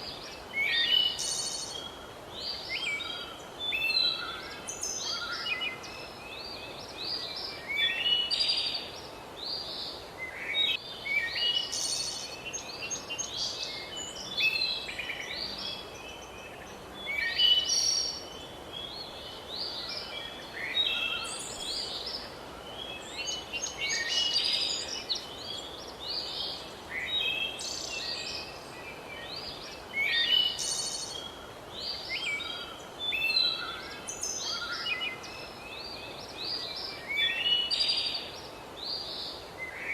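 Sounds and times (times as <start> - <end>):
steady background hiss: 0.0 - 39.9
birds singing and chirping: 0.3 - 39.9.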